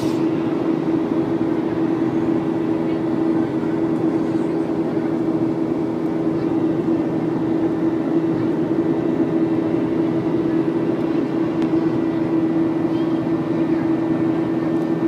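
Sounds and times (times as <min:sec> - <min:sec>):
airliner cabin engine hum: 0:00.0 - 0:15.0.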